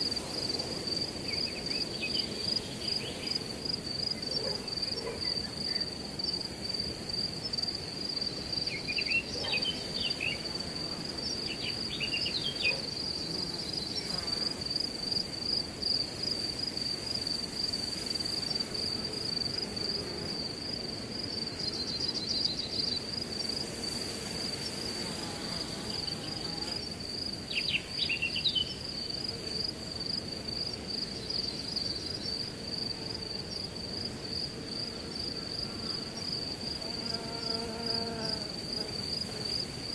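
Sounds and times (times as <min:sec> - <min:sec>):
wind through grass: 0:00.0 - 0:37.3
crickets chirping: 0:00.0 - 0:39.9.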